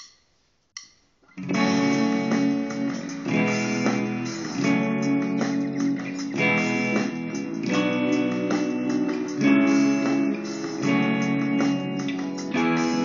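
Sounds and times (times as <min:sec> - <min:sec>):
electric guitar playing chords: 0:01.4 - 0:13.0.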